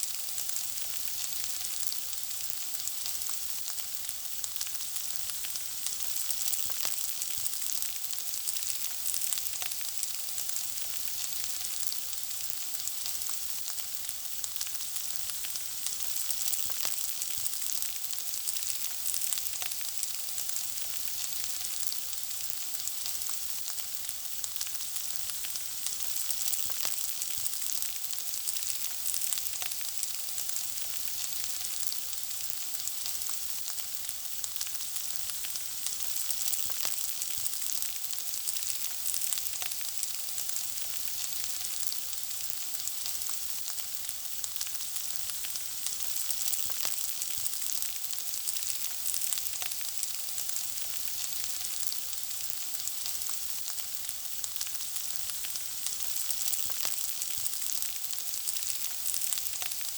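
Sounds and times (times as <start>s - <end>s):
food frying in hot oil: 0.0s - 59.9s.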